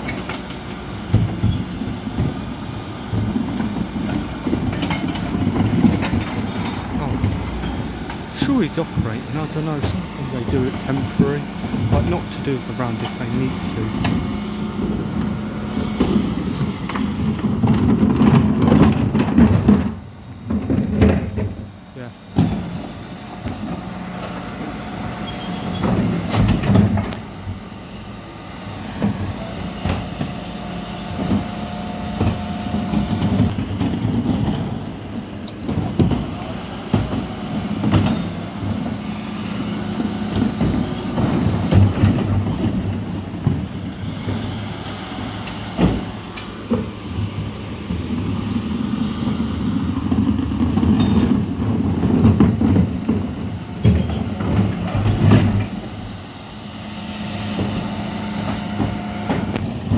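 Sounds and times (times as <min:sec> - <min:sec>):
wheelie bins knocking and clattering: 0:00.0 - 0:24.5, 0:25.3 - 0:27.2, 0:29.0 - 0:45.0, 0:45.6 - 0:56.1, 0:56.8 - 0:59.9
refuse lorry idling: 0:00.0 - 0:59.9.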